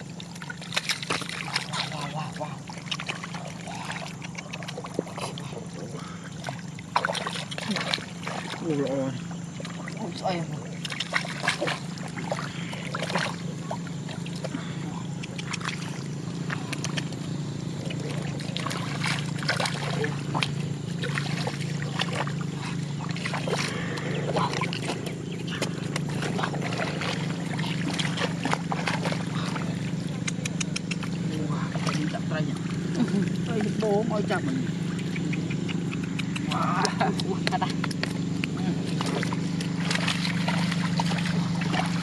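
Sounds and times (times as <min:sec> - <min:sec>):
small engine humming: 0:00.0 - 0:42.0
water and mud splashing: 0:00.0 - 0:42.0.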